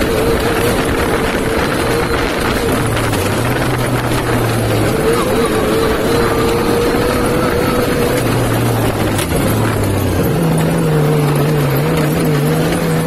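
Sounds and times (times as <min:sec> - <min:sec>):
engine running: 0:00.0 - 0:13.0
wind and driving noise: 0:00.0 - 0:13.0.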